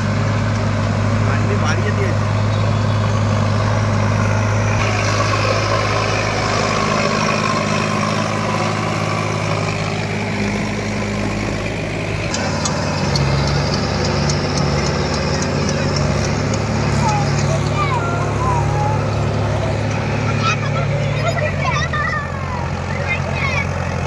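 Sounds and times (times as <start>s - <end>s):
tractor diesel engines running: 0.0s - 24.0s.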